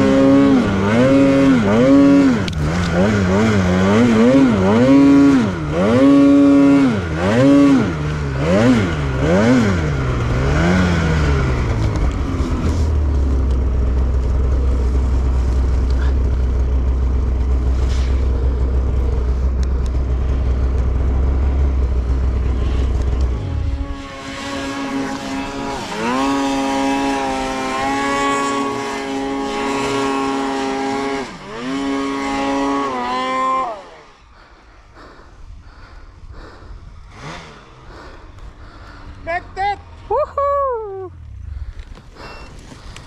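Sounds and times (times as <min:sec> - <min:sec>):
snowmobile engine revving: 0:00.0 - 0:43.0
snowmobile engine rumbling: 0:00.0 - 0:43.0.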